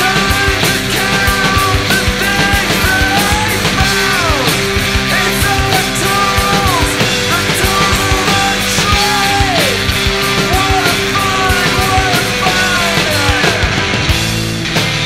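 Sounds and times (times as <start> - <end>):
busy drums: 0.0 - 15.0
rock band music: 0.0 - 15.0.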